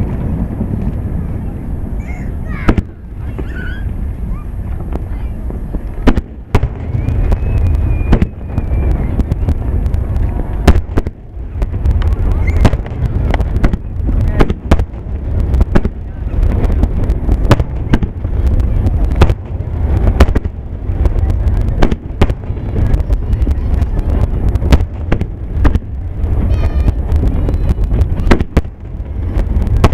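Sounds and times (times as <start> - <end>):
firework shells bursting: 0.0 - 29.9
low rumble of booms: 0.0 - 29.9.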